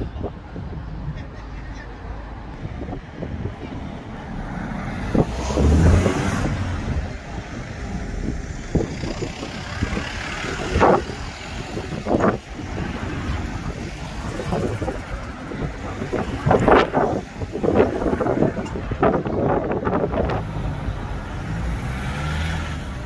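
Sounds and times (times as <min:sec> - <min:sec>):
road traffic: 0:00.0 - 0:23.0
wind buffeting microphone: 0:00.0 - 0:23.0.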